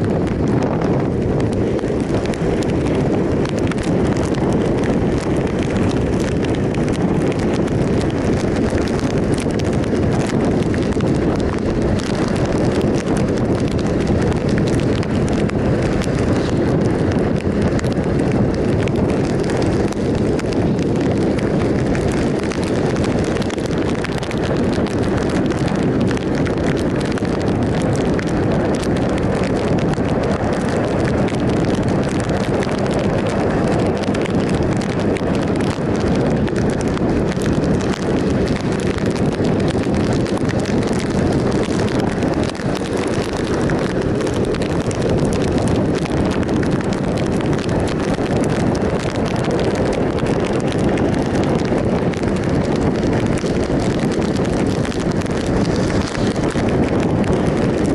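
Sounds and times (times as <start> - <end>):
road noise: 0.0 - 57.9
wind rush over microphone: 0.0 - 57.9.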